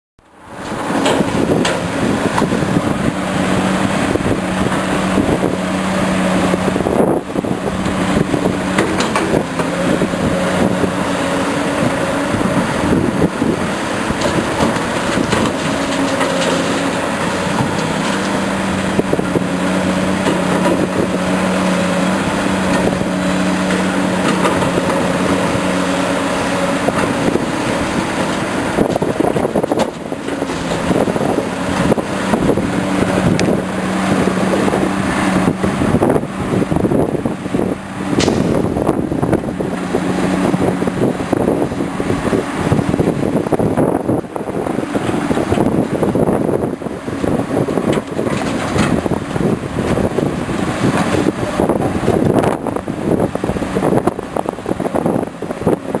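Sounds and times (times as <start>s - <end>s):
excavator diesel engine droning: 0.2s - 56.0s.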